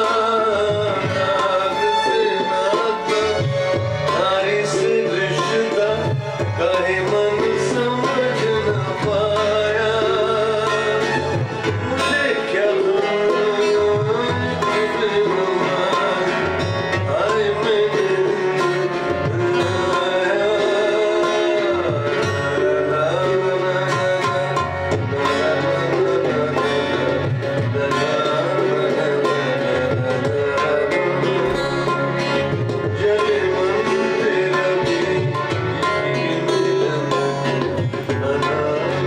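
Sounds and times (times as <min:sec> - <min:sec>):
man singing slow melody: 0:00.0 - 0:39.0
tabla: 0:00.0 - 0:39.0.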